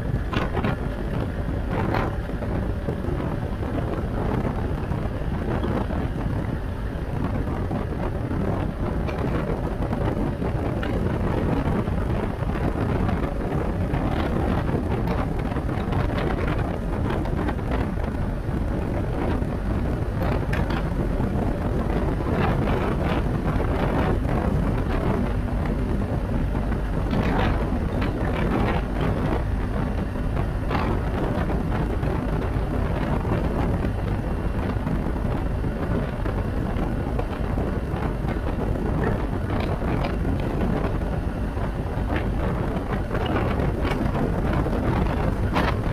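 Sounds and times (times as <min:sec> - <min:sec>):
low constant rumble: 0:00.0 - 0:45.9
wind buffeting microphone: 0:00.0 - 0:45.9.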